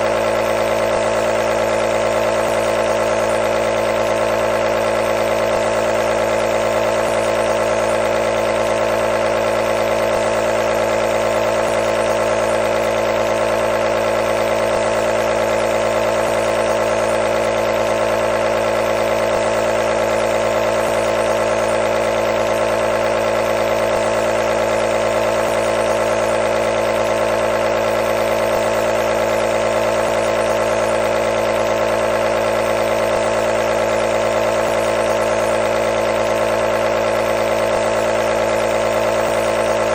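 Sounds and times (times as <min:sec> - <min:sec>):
compressor buzzing hum: 0:00.0 - 0:39.9.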